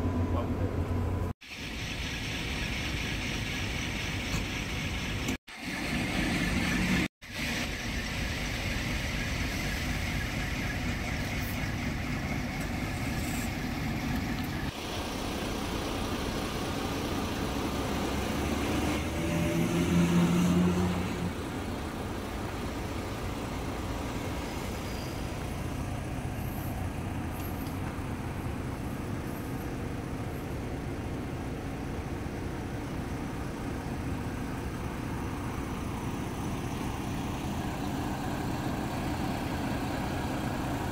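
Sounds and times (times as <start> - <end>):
diesel engine idling: 0.0 - 19.3, 20.8 - 40.9.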